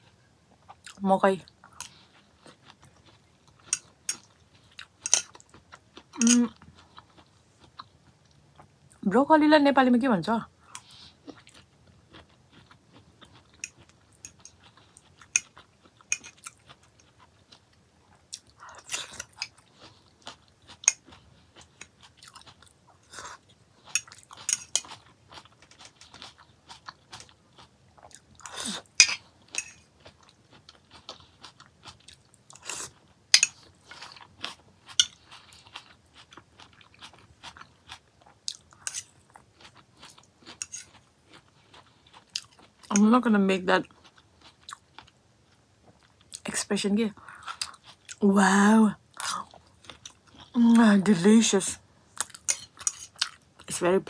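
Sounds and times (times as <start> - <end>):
chewing and crunching salad: 0.0 - 9.0, 10.6 - 48.3, 49.0 - 51.4, 52.1 - 53.8.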